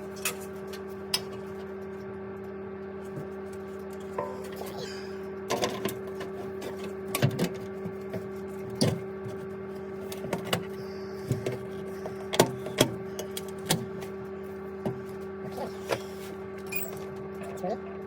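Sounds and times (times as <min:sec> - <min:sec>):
boiler fan humming: 0:00.0 - 0:18.0.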